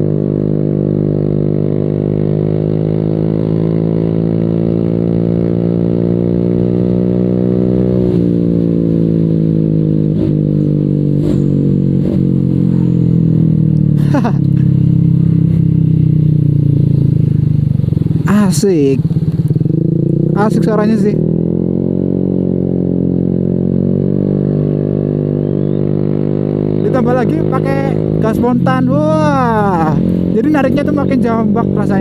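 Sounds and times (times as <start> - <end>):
scooter engine running: 0.0 - 32.0.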